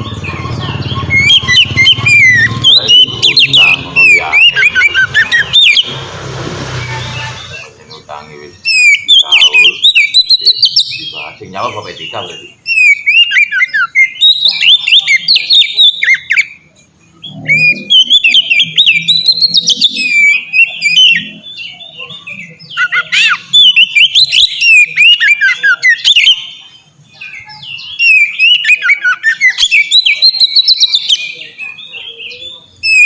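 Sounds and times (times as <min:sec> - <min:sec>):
bird singing whistled notes: 0:00.0 - 0:06.0, 0:06.8 - 0:33.0.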